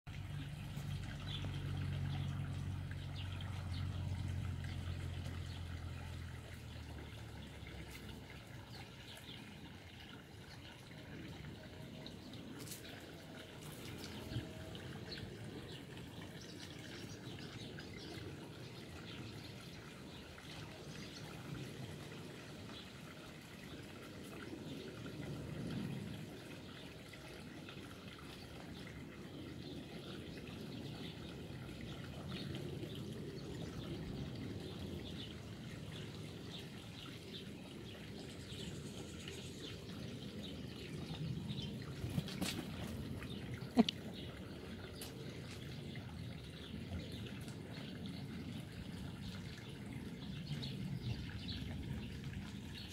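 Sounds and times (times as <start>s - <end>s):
faint birdsong: 0.1s - 52.9s.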